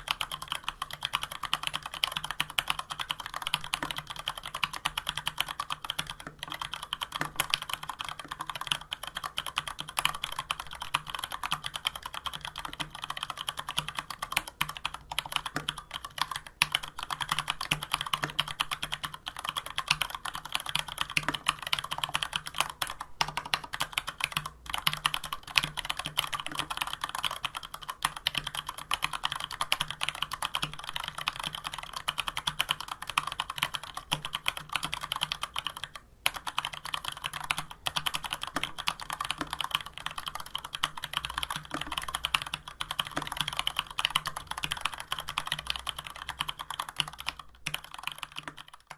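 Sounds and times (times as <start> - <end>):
mechanical keyboard typing: 0.0 - 48.9.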